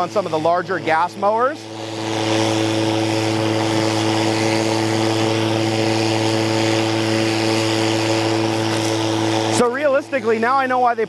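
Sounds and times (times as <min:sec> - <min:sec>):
electric lawn mower running: 0:00.0 - 0:11.0.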